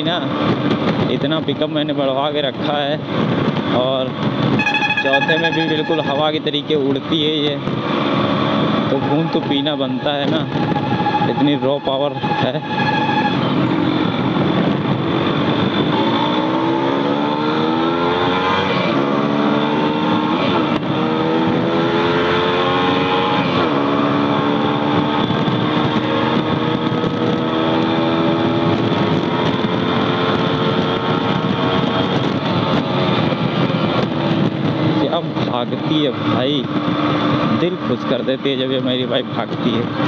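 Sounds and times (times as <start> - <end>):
wind and road noise: 0.0 - 40.0
motorcycle engine accelerating: 2.5 - 40.0.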